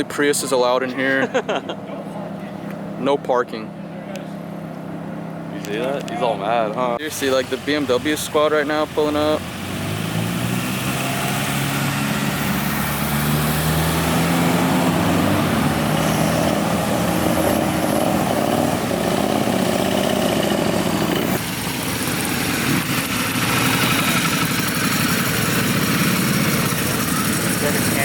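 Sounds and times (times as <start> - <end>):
car engines running: 0.0 - 28.0.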